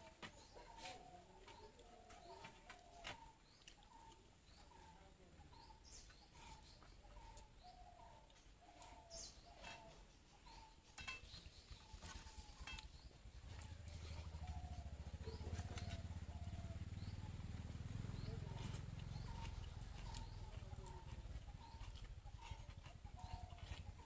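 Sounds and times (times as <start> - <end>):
faint bird calls: 0.0 - 24.0.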